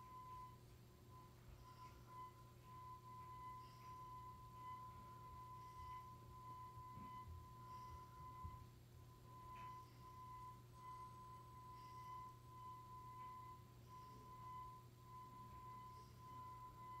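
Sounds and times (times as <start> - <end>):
faint high-pitched whine: 0.0 - 17.0
low hum: 0.0 - 17.0.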